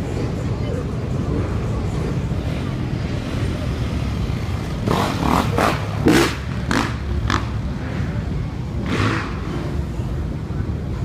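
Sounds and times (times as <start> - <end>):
traffic engines rumbling: 0.0 - 11.0.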